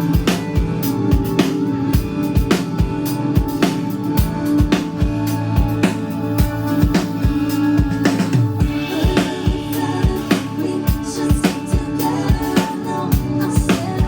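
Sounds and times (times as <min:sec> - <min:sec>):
band music: 0:00.0 - 0:14.0
drum kit beat: 0:00.0 - 0:14.0
held bass notes: 0:00.0 - 0:14.0.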